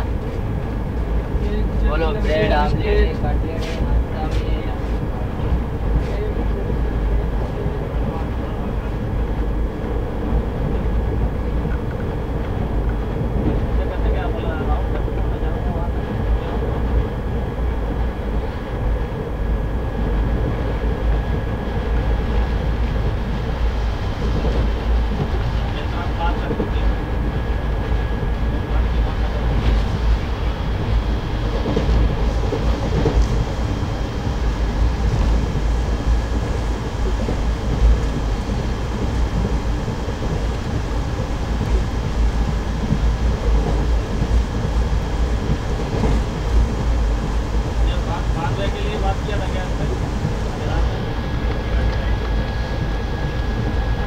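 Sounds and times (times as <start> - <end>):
train coach rumbling: 0.0 - 54.0.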